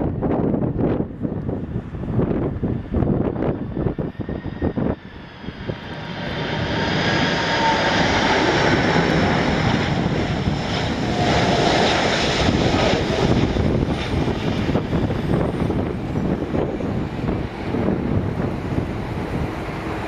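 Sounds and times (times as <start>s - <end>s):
high whining fan tones: 0.0s - 20.0s
jet engines roaring: 0.0s - 20.0s
wind buffeting microphone: 0.0s - 20.0s.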